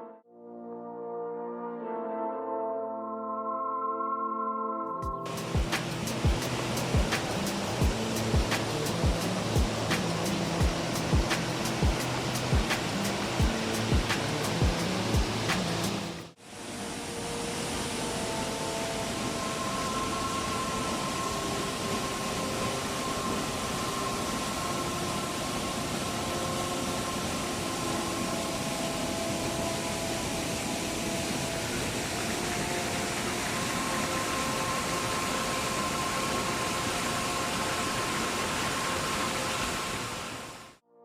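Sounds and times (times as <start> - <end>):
rushing stream and waterfall: 5.2 - 40.8.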